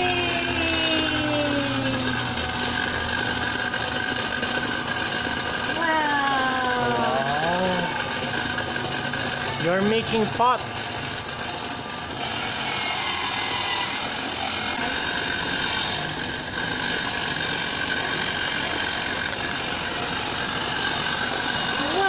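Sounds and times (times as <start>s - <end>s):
thin steady whine: 0.0s - 22.0s
toy pottery wheel motor running: 0.0s - 22.0s.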